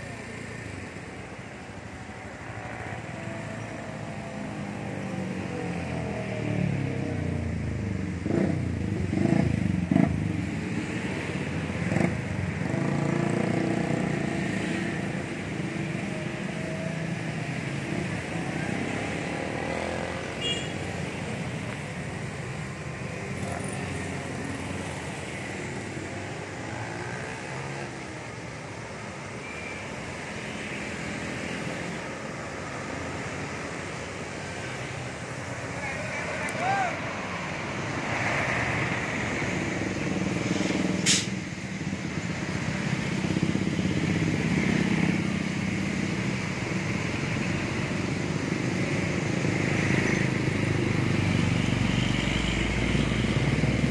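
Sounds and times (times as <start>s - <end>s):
motorcycles passing by: 0.0s - 53.9s.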